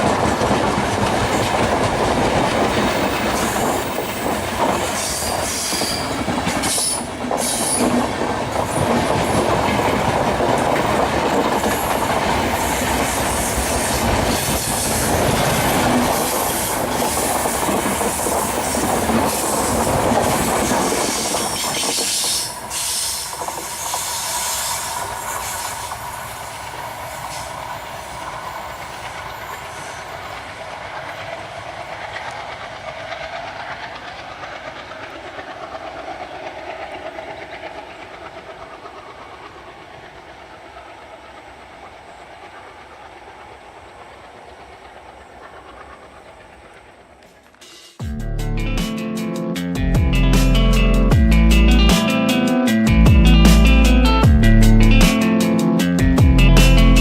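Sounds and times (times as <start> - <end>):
train wheels clattering over rail joints: 0.0 - 41.2, 42.4 - 48.0.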